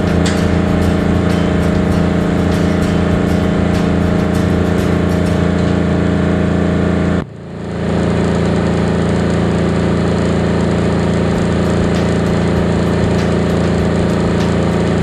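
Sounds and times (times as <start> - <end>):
diesel generator engine running: 0.0 - 15.0.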